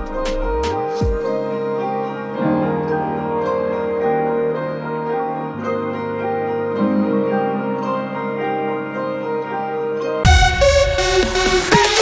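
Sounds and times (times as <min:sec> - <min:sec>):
calm keyboard music: 0:00.0 - 0:12.0.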